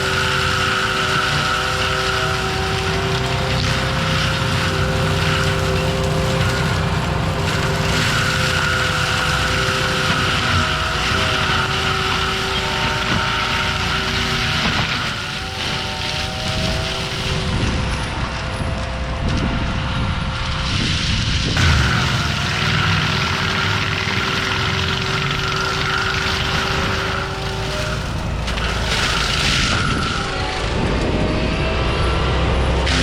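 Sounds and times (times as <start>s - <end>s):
engine rumble: 0.0s - 33.0s
mulcher drum whine: 0.0s - 33.0s.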